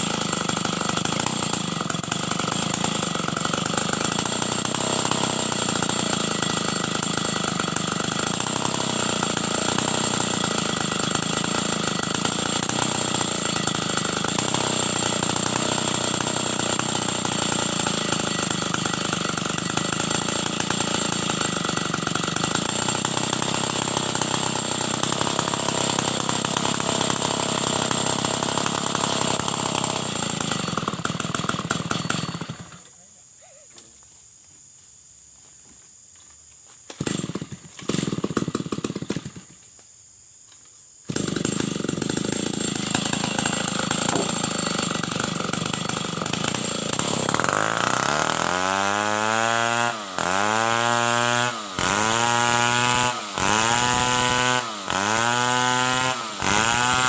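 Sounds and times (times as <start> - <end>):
chainsaw cutting timber: 0.0 - 33.1, 36.9 - 39.8, 41.0 - 57.0.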